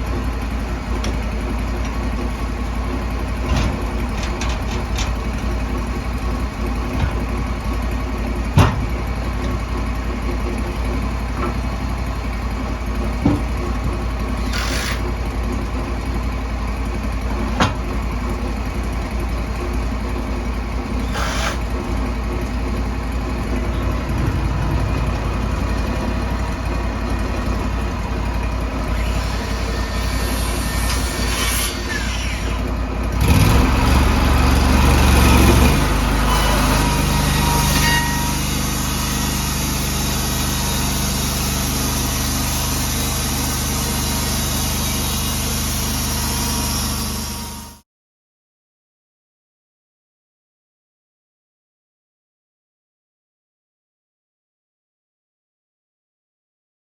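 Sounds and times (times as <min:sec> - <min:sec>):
sawmill engine running: 0:00.0 - 0:47.8.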